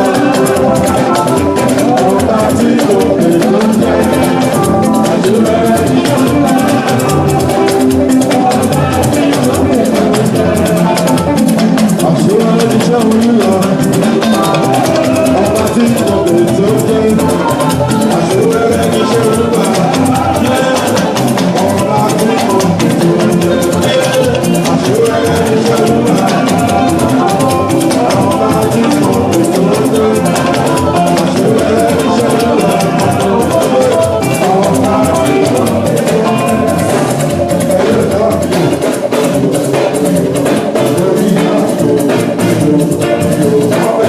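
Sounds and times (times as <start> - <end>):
church band playing praise music: 0.0 - 44.0
drum kit beat: 0.0 - 44.0.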